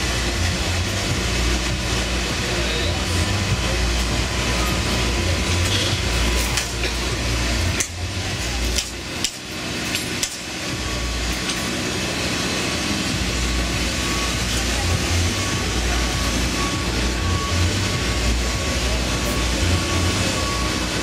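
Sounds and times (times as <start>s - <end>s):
torch burning with rushing hiss: 0.0s - 21.0s.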